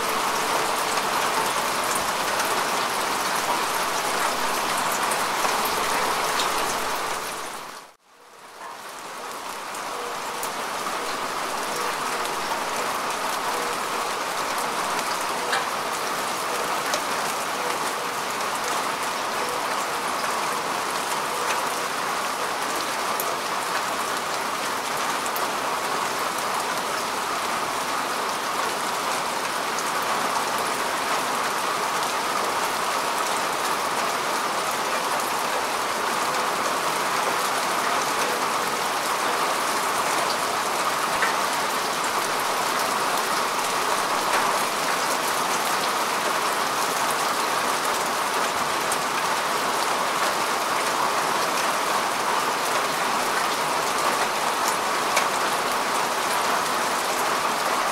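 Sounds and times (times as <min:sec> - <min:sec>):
rain falling on grass: 0:00.0 - 0:57.9.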